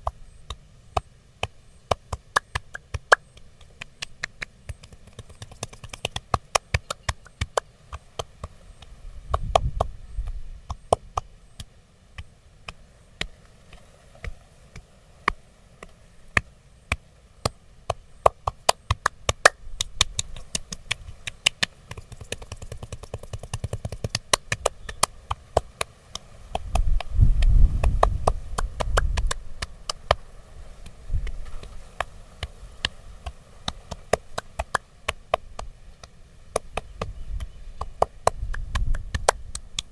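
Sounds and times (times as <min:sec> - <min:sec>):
percussive massage taps: 0:00.0 - 0:30.2, 0:30.8 - 0:39.9.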